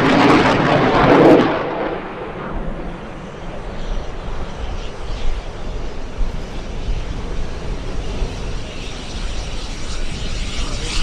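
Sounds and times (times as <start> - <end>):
jet engines flying over: 0.0 - 11.0.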